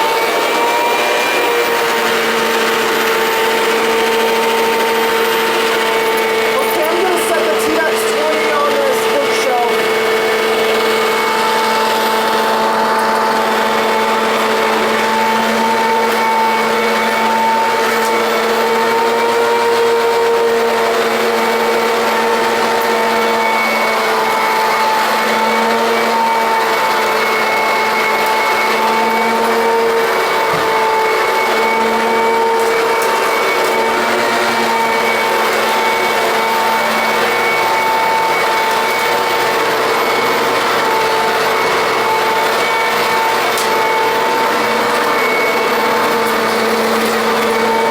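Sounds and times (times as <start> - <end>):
vacuum cleaner motor whine: 0.0 - 47.9.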